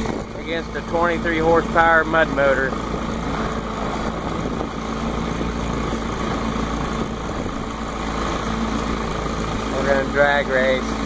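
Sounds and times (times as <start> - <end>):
small boat motor running: 0.0 - 11.0.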